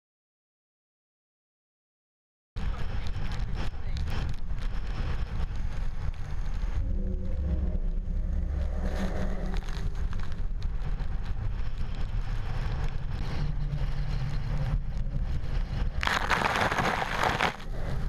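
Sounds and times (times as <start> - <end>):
wind buffeting microphone: 2.6 - 18.0.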